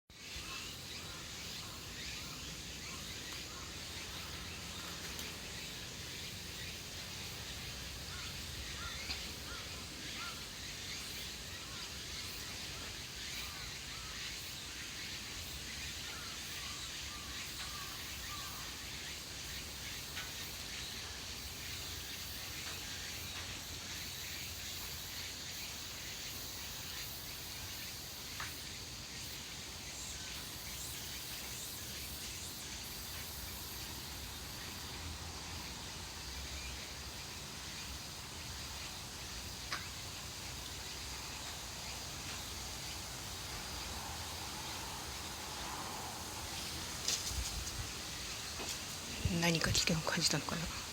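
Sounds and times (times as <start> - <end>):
high insect buzz: 0.2 - 50.9.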